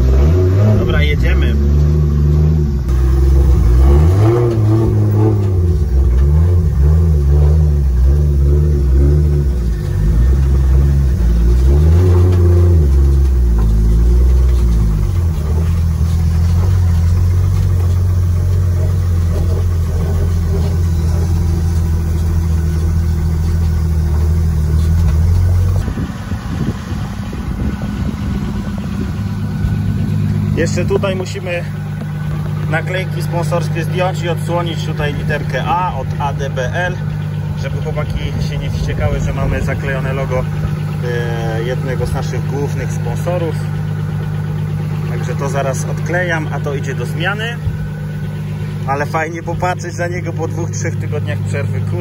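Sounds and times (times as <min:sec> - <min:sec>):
car engine revving and idling: 0:00.0 - 0:52.0.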